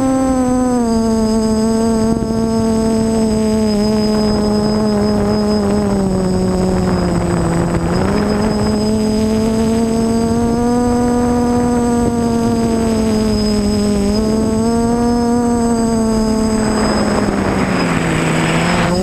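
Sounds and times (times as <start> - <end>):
drone propellers droning: 0.0 - 19.0.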